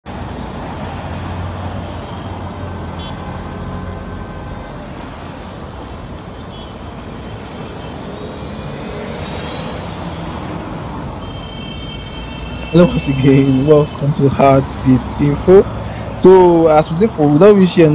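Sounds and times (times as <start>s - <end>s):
car engines humming: 0.0s - 17.9s.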